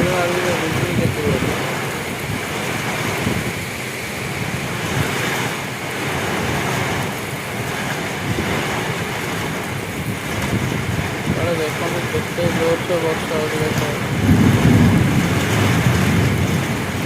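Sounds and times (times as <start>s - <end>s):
heavy rain pouring: 0.0s - 17.0s
wind gusting over microphone: 0.0s - 17.0s.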